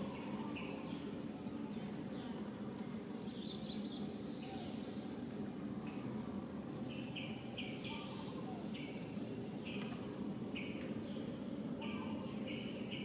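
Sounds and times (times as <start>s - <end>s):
low insect buzz: 0.0s - 13.0s.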